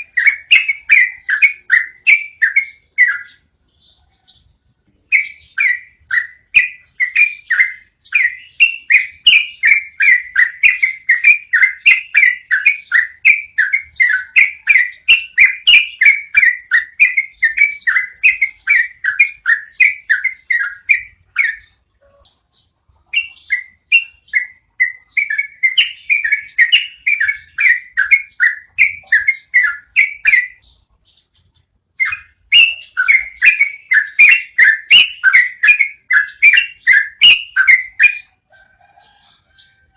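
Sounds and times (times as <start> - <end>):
bulbul chirping: 0.0 - 38.4.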